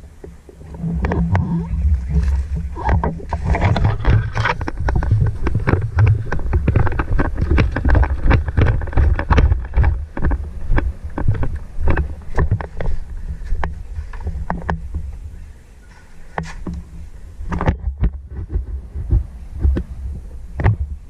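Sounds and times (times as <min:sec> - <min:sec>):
wind rumble on microphone: 0:00.0 - 0:15.7, 0:16.3 - 0:21.0
irregular clicks and crackles: 0:00.0 - 0:19.9
microphone handling noise: 0:00.0 - 0:21.0.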